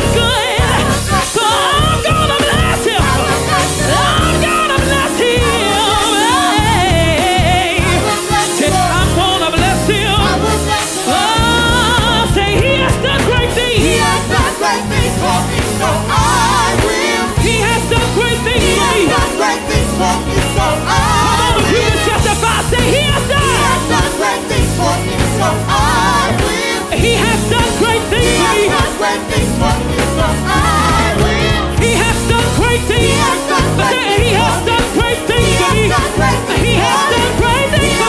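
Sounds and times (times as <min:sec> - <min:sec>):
gospel group singing: 0:00.0 - 0:38.0
instrumental accompaniment: 0:00.0 - 0:38.0.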